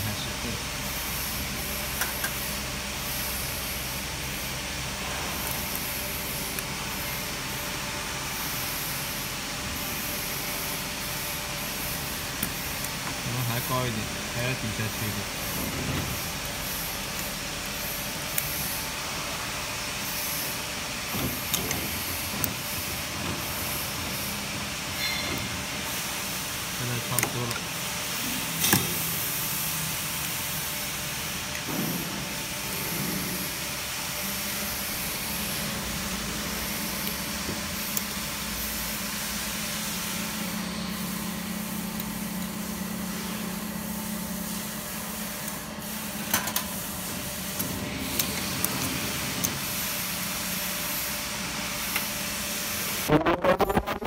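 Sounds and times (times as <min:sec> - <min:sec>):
cutting machine hiss: 0:00.0 - 0:53.2.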